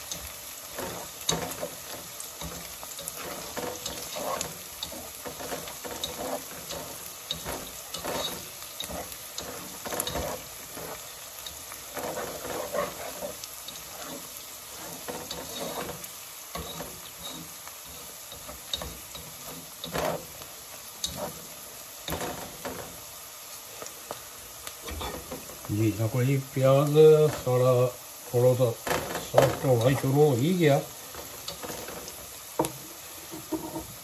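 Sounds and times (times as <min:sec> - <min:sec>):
spatula scraping pan: 0:00.0 - 0:23.2, 0:23.8 - 0:34.0
onions sizzling in oil: 0:00.0 - 0:34.0.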